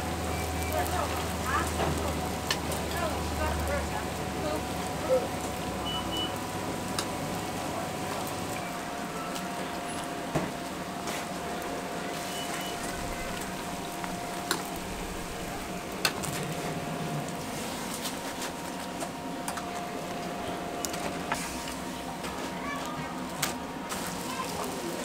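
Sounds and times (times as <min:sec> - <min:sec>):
dough sizzling in hot oil: 0:00.0 - 0:19.2, 0:23.3 - 0:25.0.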